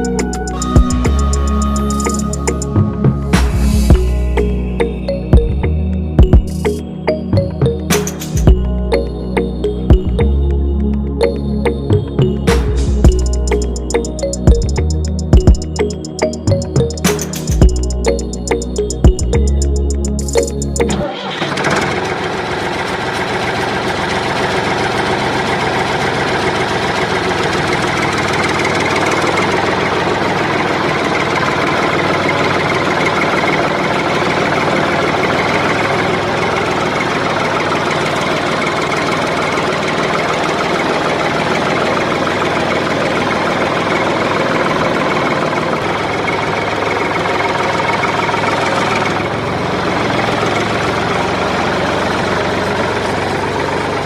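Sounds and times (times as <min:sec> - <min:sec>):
tractor engine chugging: 0:00.0 - 0:05.6, 0:11.2 - 0:54.0.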